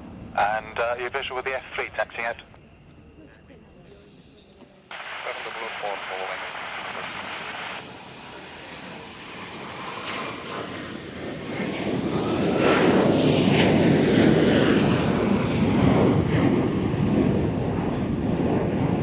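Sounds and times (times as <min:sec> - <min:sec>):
aircraft engine: 0:00.0 - 0:19.0.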